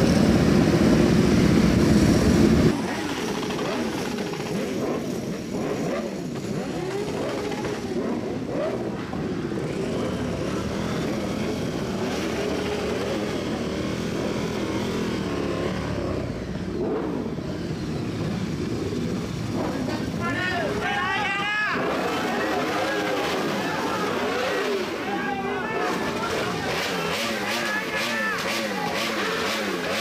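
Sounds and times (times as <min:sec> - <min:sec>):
motorcycle engine revving: 0:00.0 - 0:20.8, 0:21.6 - 0:30.0.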